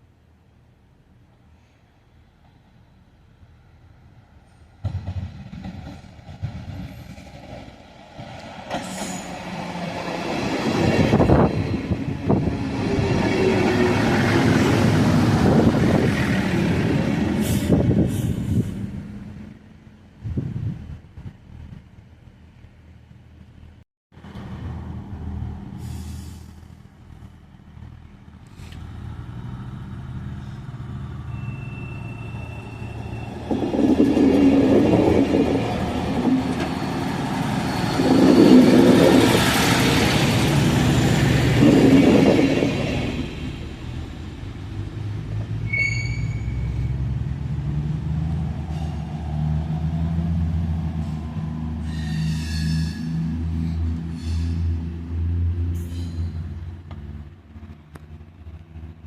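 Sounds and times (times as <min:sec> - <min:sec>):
diesel train rumbling past: 0:00.0 - 0:59.0.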